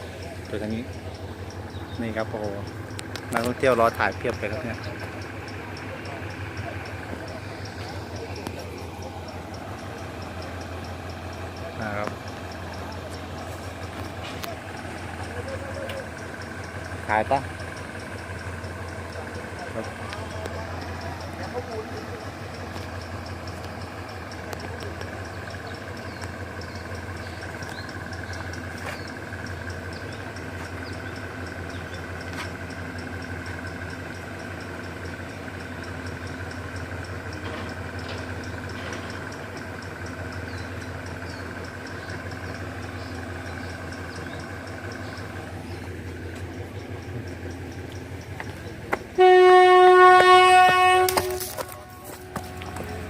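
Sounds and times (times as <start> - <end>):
insects chirping: 0.0 - 49.2
fast high ticking: 0.0 - 49.5
engine idling: 0.0 - 53.0.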